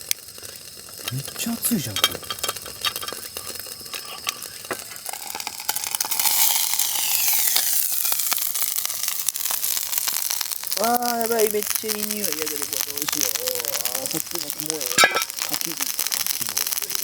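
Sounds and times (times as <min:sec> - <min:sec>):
dumplings sizzling in a pan: 0:00.0 - 0:17.0.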